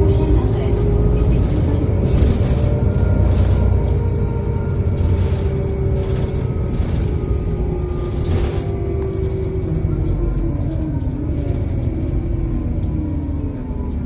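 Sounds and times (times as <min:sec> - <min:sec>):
bus diesel engine idling: 0:00.0 - 0:13.8.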